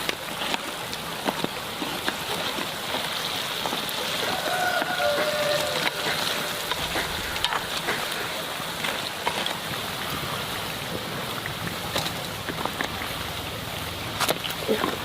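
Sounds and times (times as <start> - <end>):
oil popping and crackling: 0.0 - 15.0.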